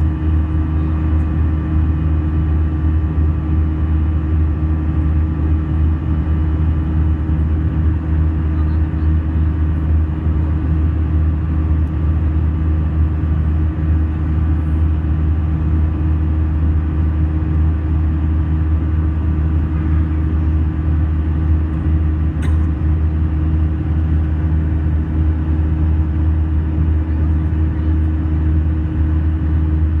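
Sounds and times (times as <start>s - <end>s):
aircraft cabin engine drone: 0.0s - 30.0s.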